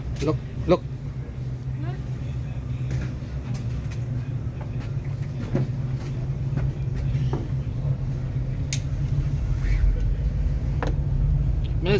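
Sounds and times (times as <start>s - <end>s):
ferry engines rumbling: 0.0s - 11.9s.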